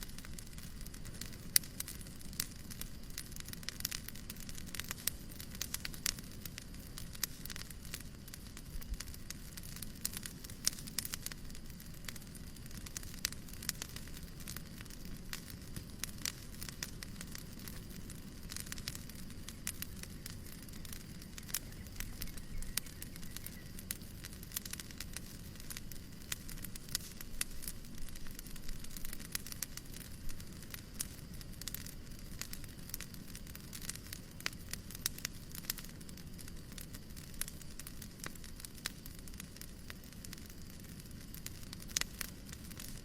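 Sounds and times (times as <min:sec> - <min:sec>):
low rumble and hiss: 0:00.0 - 0:43.0
wood fire crackling and popping: 0:00.0 - 0:43.0.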